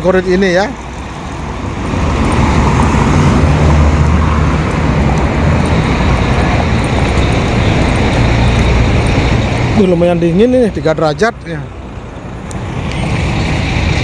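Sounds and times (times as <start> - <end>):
road noise: 0.0 - 14.0
vehicle engine humming: 0.0 - 14.0.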